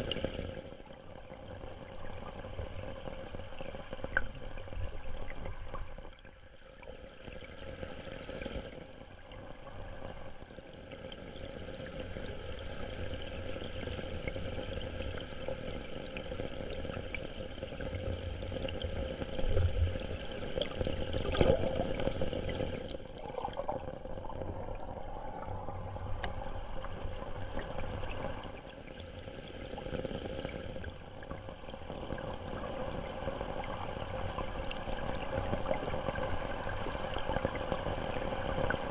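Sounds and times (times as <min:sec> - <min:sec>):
stream water rushing underwater: 0:00.0 - 0:38.9.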